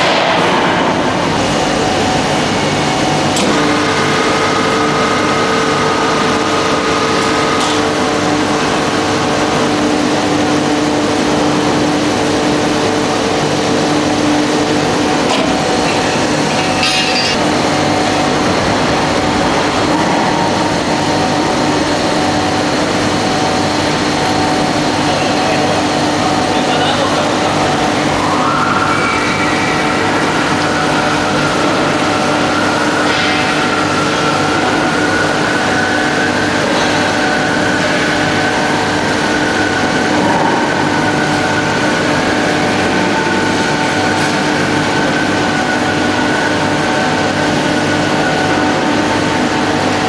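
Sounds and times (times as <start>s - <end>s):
factory machinery hum: 0.0s - 50.0s.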